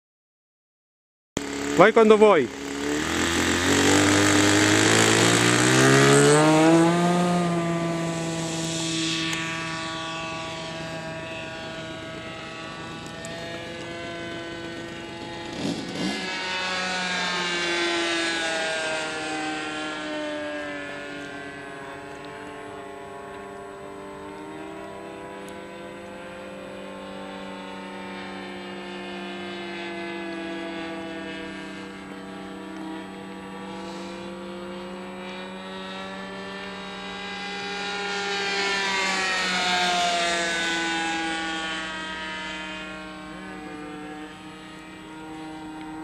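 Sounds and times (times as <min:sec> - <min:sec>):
model plane engine wavering: 0:01.4 - 0:46.0.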